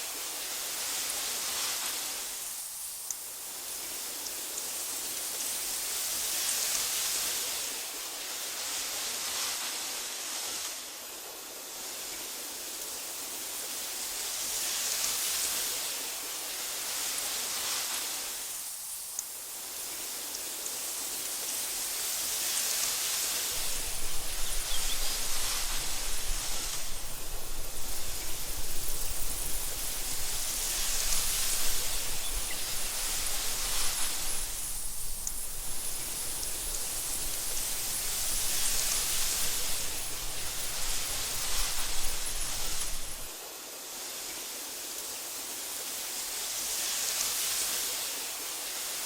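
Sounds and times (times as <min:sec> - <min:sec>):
wind blowing through grass: 0:00.0 - 0:49.0.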